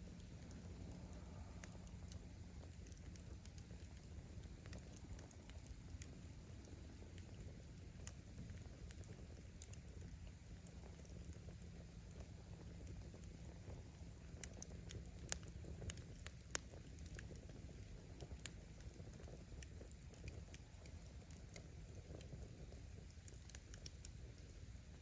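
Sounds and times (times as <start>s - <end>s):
bonfire crackling and popping: 0.0s - 25.0s
low fire rumble: 0.0s - 25.0s.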